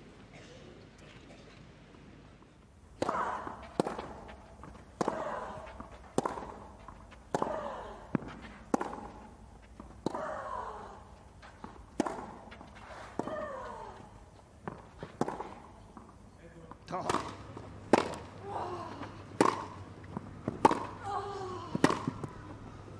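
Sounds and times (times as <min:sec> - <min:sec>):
racquets hitting tennis ball: 0:02.4 - 0:22.7.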